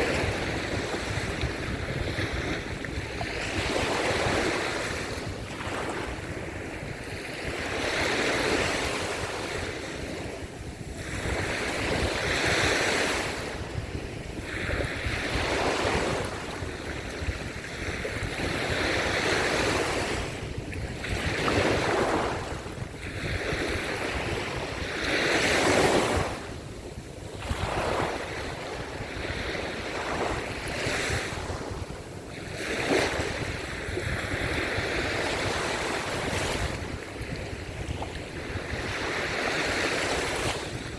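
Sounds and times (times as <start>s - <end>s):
waves washing up a beach: 0.0s - 40.9s
wind buffeting microphone: 0.0s - 40.9s.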